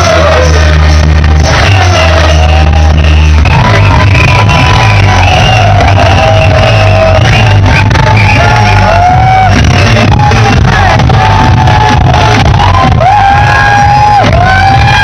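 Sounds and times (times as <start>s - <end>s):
crowd shouting: 0.0s - 15.0s
loud amplified music with heavy bass: 0.0s - 15.0s.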